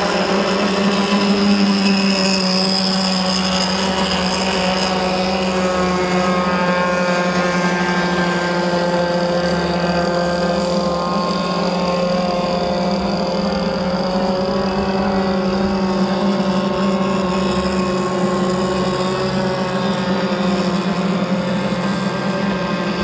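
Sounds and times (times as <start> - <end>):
rc boat engine buzzing: 0.0 - 23.0.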